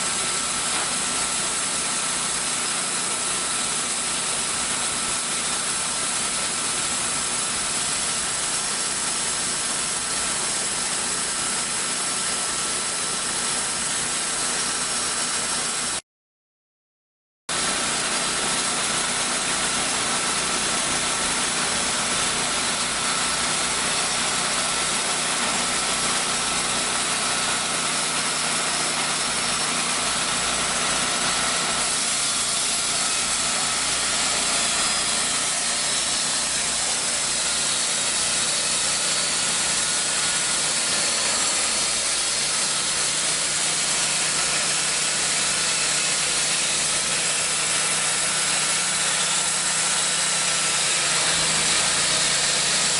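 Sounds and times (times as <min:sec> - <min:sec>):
sawmill engine running: 0:00.0 - 0:16.0, 0:17.5 - 0:52.9.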